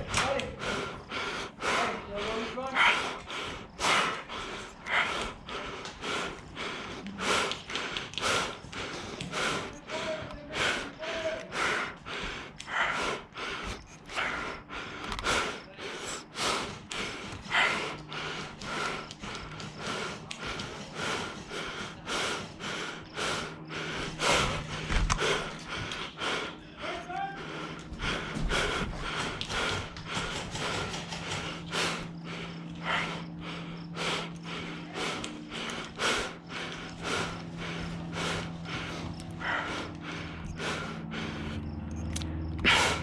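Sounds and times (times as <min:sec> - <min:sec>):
faint low hum: 0:00.0 - 0:43.0
heavy fast breathing: 0:00.0 - 0:43.0.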